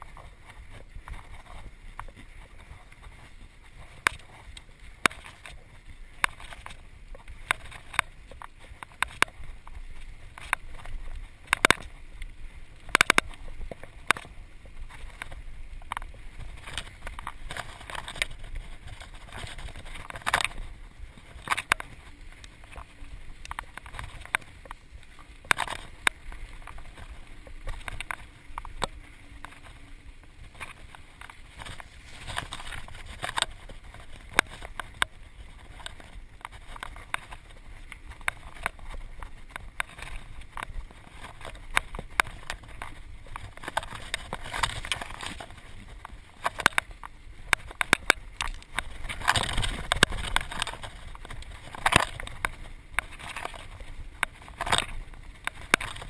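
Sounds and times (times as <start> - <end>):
bike rattling over bumps: 0.0 - 56.0.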